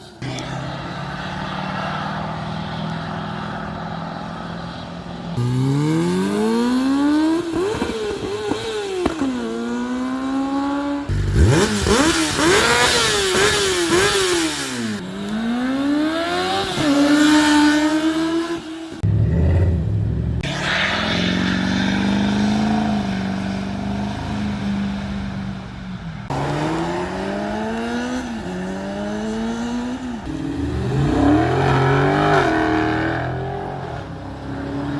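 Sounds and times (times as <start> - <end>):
vehicles accelerating hard: 0.0 - 34.9.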